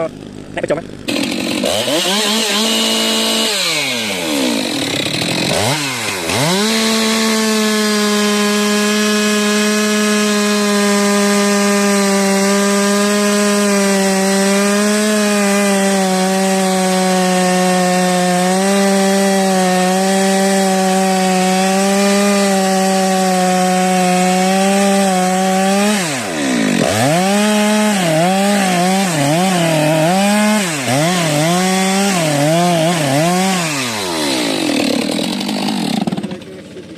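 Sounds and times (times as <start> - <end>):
chainsaw cutting wood and revving: 0.0 - 36.9.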